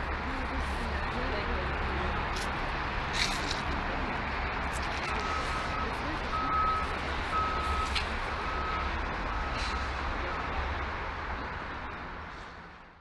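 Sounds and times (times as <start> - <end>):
rail car rumble and hiss: 0.0 - 13.0.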